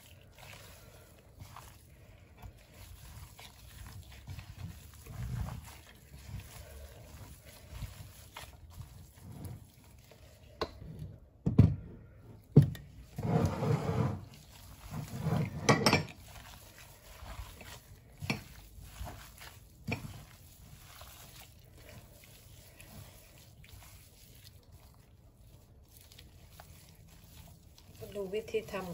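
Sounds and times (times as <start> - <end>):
wet squelching of meat: 0.0 - 11.4, 14.1 - 28.9.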